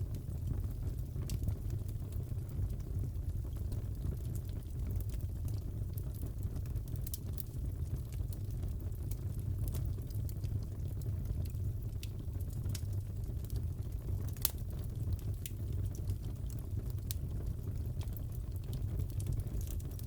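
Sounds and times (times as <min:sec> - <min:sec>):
fire popping and crackling: 0:00.0 - 0:20.0
fire rumbling: 0:00.0 - 0:20.0.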